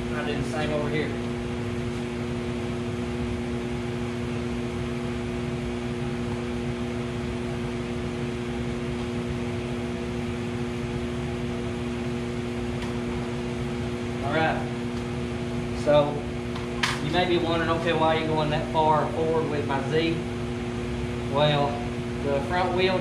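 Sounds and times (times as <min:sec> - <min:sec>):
electric fan hum and hiss: 0:00.0 - 0:23.0.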